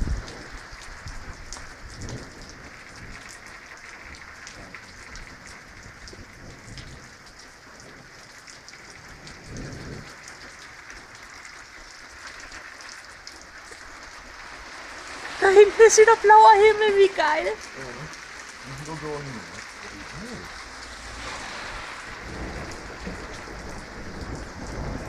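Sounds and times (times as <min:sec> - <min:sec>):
light rain falling: 0:00.0 - 0:25.0
raindrops ticking on a surface: 0:00.0 - 0:25.0.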